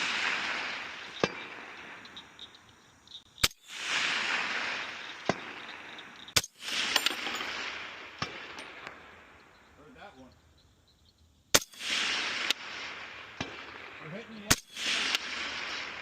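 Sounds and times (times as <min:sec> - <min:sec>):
suppressed rifle shots with echo: 0:00.0 - 0:02.6, 0:03.4 - 0:09.8, 0:11.5 - 0:16.0.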